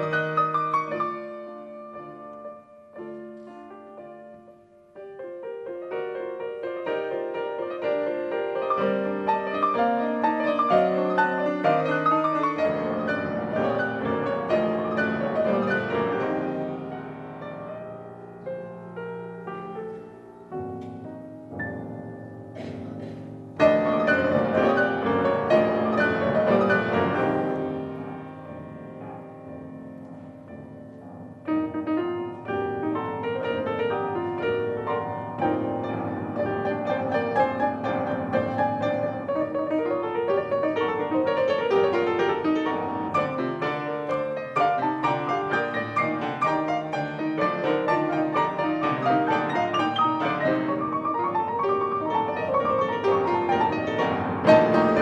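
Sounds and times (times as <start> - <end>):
pianos playing repeated notes: 0.0 - 55.0.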